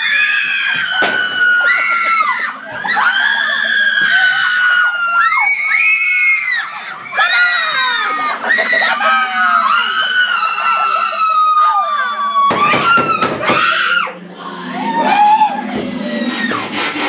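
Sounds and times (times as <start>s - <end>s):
girls screaming: 0.0s - 16.7s.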